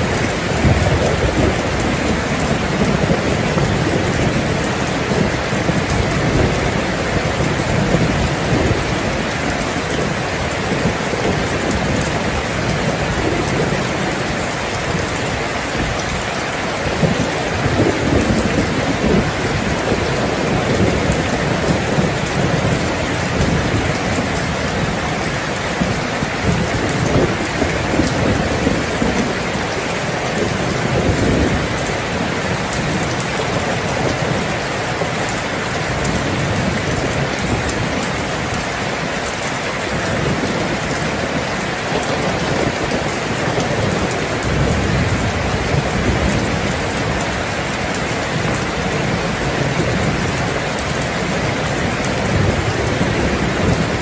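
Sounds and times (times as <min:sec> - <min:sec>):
heavy rain falling: 0:00.0 - 0:54.0
thunder rumbling: 0:00.0 - 0:54.0.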